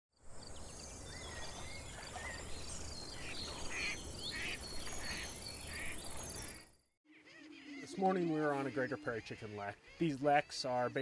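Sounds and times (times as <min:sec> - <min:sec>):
wild birds calling: 0:00.4 - 0:11.0.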